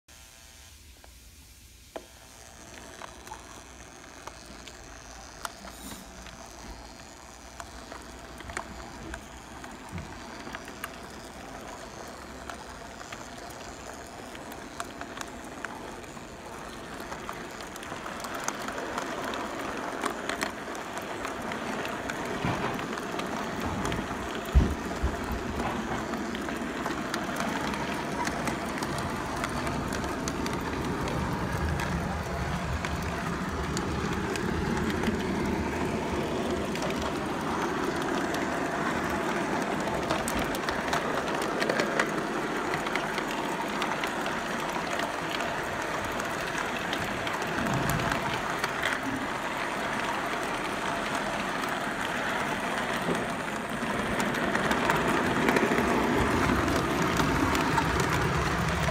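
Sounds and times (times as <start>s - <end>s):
model train rolling on track: 0.1s - 58.9s.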